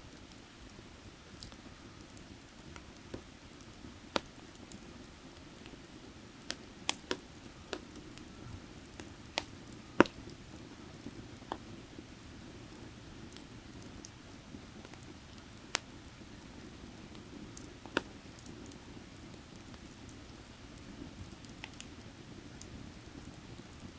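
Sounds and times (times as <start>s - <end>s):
firewood crackling and popping: 0.1s - 23.9s.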